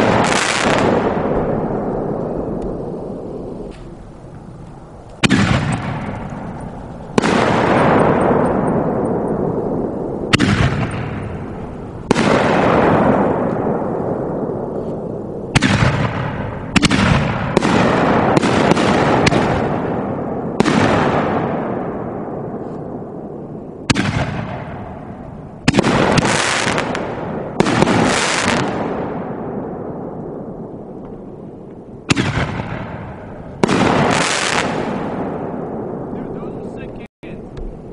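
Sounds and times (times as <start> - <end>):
fireworks shells bursting with booms: 0.0 - 37.9
rolling echo: 0.0 - 37.9.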